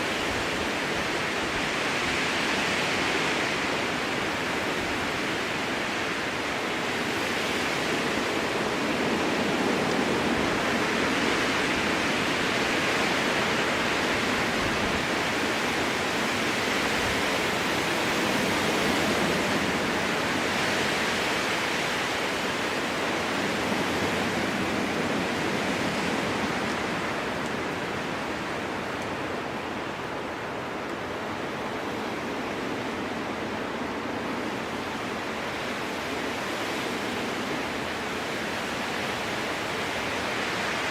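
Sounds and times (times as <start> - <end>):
strong wind rushing through trees: 0.0 - 40.9.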